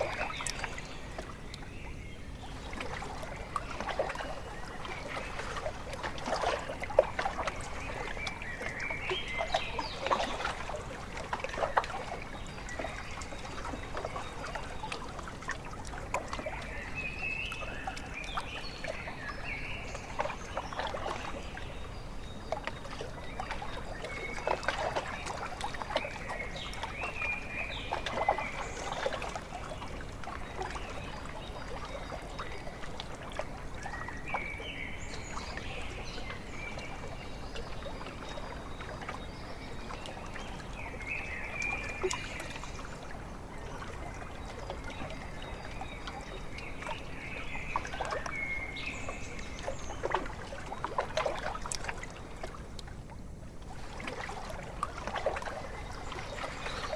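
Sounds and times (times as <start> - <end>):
small waves lapping: 0.0 - 56.9.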